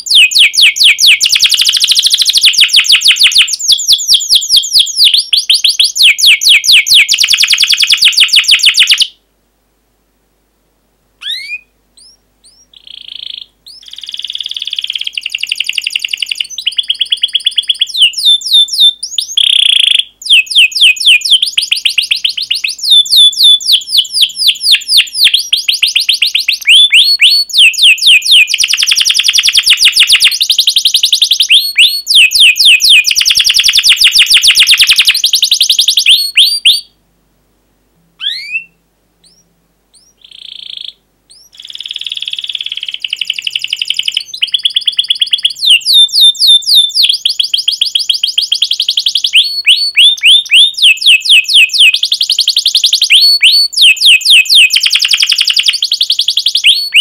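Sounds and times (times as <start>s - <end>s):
canary singing trills and chirps: 0.0s - 9.2s, 11.2s - 37.0s, 38.2s - 57.0s.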